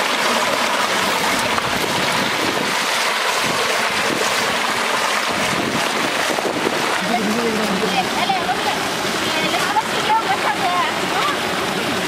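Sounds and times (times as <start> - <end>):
floodwater rushing across ground: 0.0 - 12.0.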